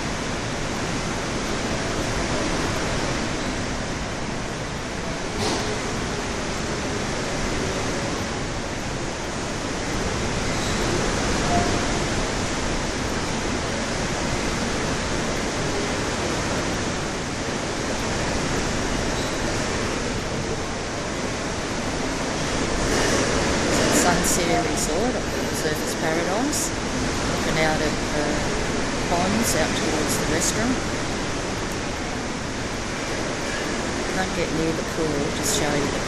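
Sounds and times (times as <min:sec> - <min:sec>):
heavy rain: 0:00.0 - 0:36.0
strong wind: 0:00.0 - 0:36.0.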